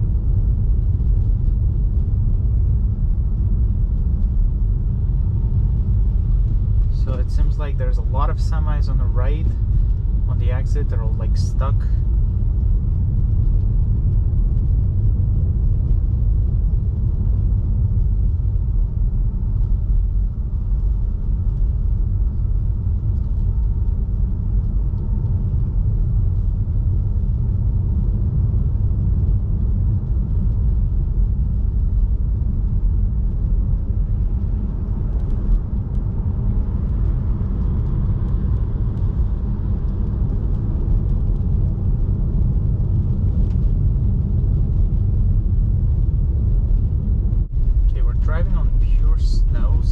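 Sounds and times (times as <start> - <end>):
tyre and road noise: 0.0 - 49.9.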